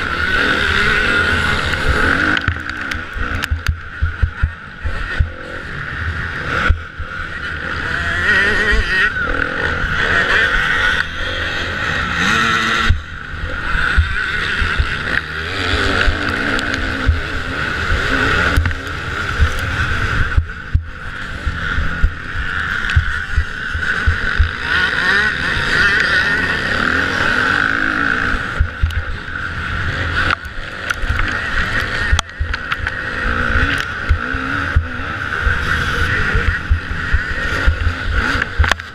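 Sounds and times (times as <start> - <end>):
motocross bike engine racing: 0.0 - 38.9.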